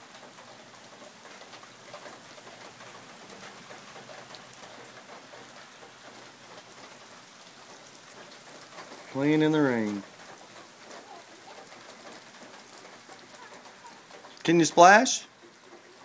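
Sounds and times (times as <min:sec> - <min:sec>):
raindrops ticking on surfaces: 0:00.0 - 0:16.0
steady rain: 0:00.0 - 0:16.0.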